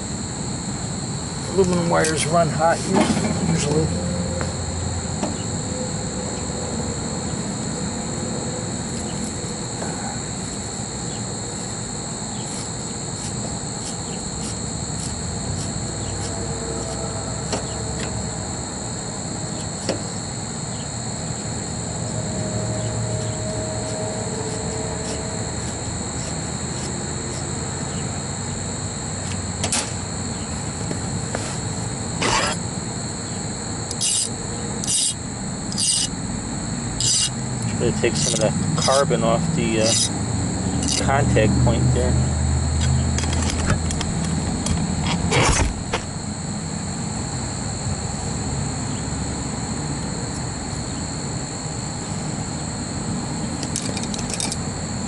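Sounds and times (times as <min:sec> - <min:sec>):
high-pitched insect drone: 0:00.0 - 0:55.0
low background hum: 0:00.0 - 0:55.0.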